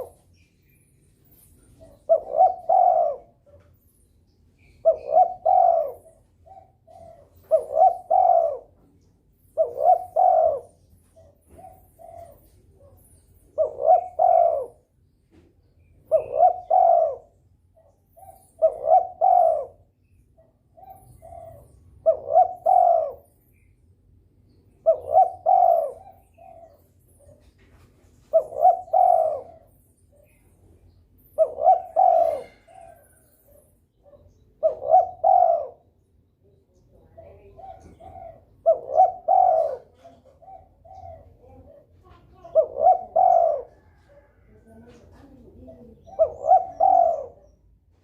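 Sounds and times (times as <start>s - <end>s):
dove cooing: 0.0s - 0.3s, 1.2s - 3.9s, 4.6s - 23.7s, 24.7s - 48.0s.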